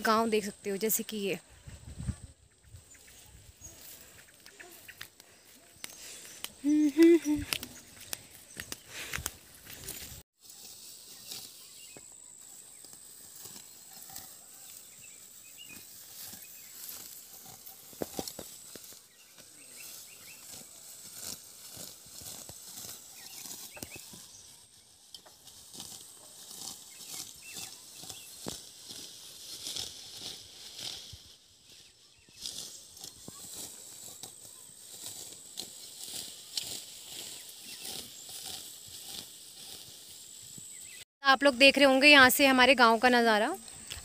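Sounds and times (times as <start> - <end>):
grass stalks rustling: 2.7 - 41.0
grass snipping and snapping: 3.8 - 31.3, 32.3 - 40.8.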